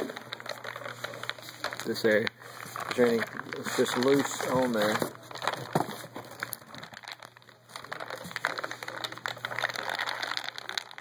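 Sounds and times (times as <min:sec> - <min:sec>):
pellets crackling and rattling: 0:00.0 - 0:11.0
pellets falling into cardboard box: 0:00.0 - 0:11.0.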